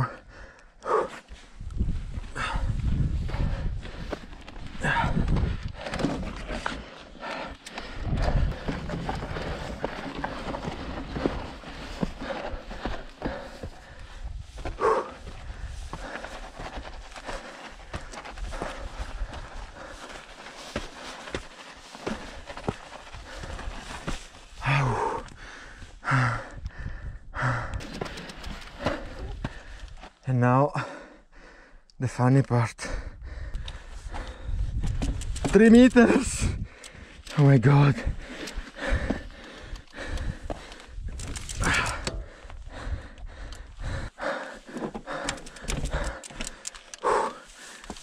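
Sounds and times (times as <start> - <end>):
man breathing hard: 0.0 - 32.0, 32.8 - 35.4, 36.4 - 37.4, 38.0 - 48.0
man panting: 0.0 - 32.0, 32.8 - 48.0.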